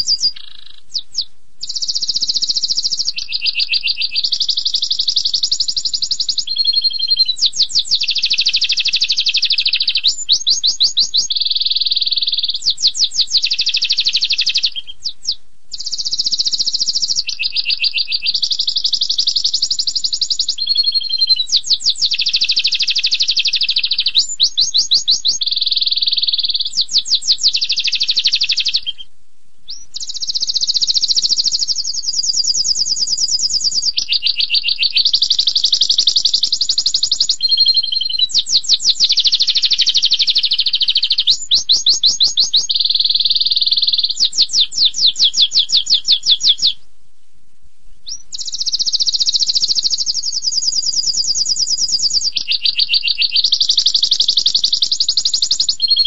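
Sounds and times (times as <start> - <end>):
canary singing trills: 0.0 - 29.1, 29.7 - 46.8, 48.0 - 56.0.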